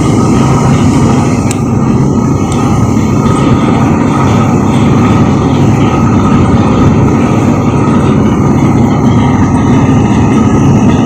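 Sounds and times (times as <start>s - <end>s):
faint engine whine: 0.0s - 11.0s
ferry engines rumbling: 0.0s - 11.0s.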